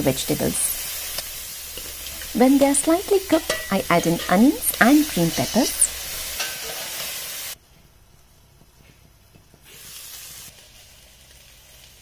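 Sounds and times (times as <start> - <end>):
vegetables sizzling in oil: 0.0 - 7.6, 9.6 - 12.0.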